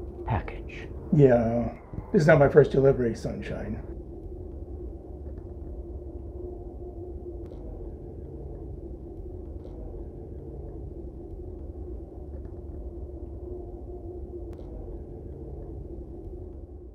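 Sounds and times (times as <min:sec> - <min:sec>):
faint hum: 0:00.0 - 0:16.9
low rumble: 0:00.0 - 0:16.9.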